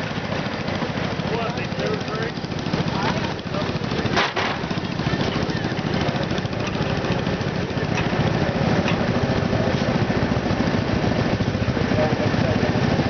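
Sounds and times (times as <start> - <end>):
garden tractor engine running: 0.0 - 13.0.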